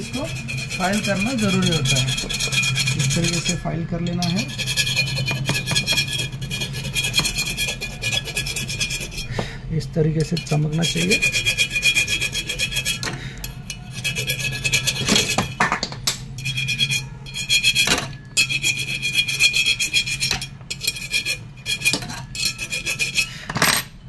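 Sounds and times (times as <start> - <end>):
hand file rasping on metal pipe: 0.0 - 9.4, 10.1 - 15.6, 16.4 - 23.5.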